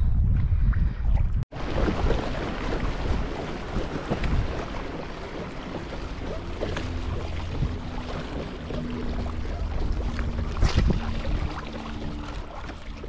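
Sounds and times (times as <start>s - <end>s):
wind buffeting microphone: 0.0s - 13.0s
water lapping against kayak hull: 1.5s - 13.0s.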